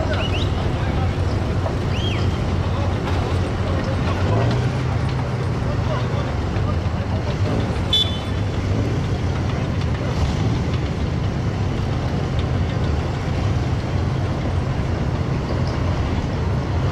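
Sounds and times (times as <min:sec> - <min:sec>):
tracked armoured vehicle engine: 0:00.0 - 0:16.9.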